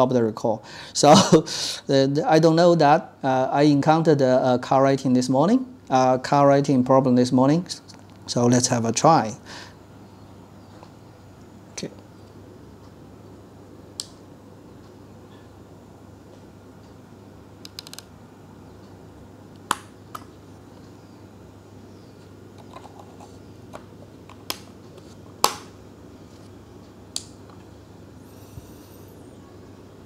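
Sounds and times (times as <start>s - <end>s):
faint low hum: 0.0s - 30.0s.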